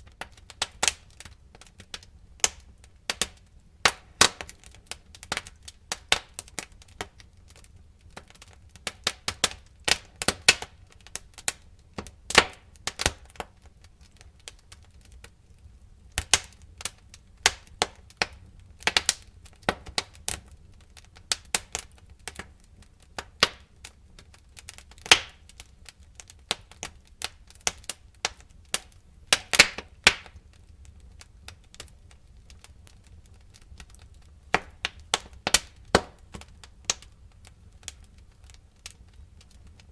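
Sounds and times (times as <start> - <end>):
low rumble of burning: 0.0 - 39.9
wood fire crackling: 0.0 - 39.9.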